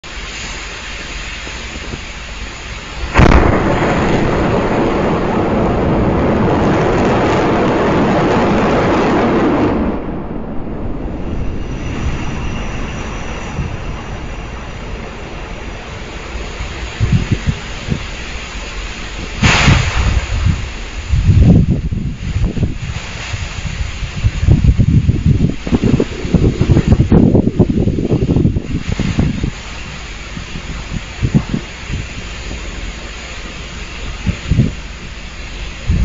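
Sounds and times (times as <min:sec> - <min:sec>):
rocket engines rumbling: 0:00.0 - 0:36.0
rocket ignition crack: 0:00.1 - 0:36.0.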